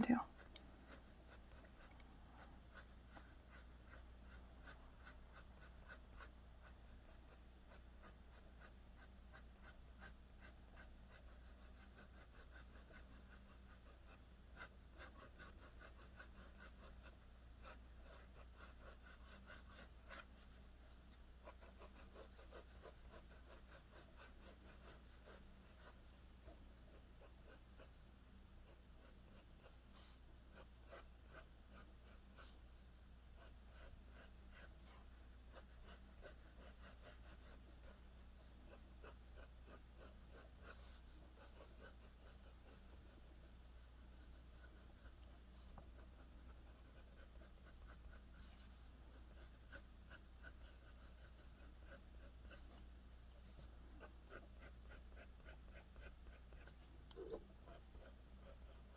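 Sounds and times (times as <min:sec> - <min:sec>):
pencil scratching on paper: 0:00.0 - 0:20.6, 0:21.4 - 0:26.0, 0:26.9 - 0:27.9, 0:28.6 - 0:32.6, 0:33.4 - 0:38.0, 0:38.6 - 0:52.8, 0:53.4 - 0:58.9
steady low hum: 0:00.0 - 0:58.9.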